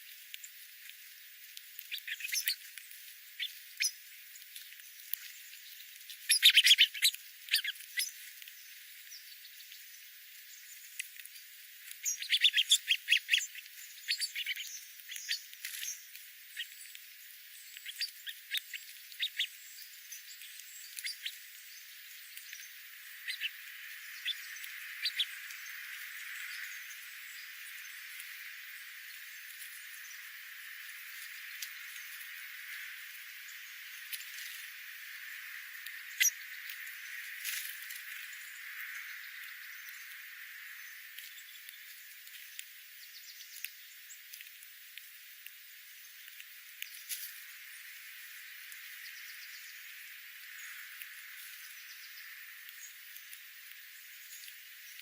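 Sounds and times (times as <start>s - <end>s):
small birds chirping: 0.0s - 55.0s
soft hiss: 0.0s - 55.0s.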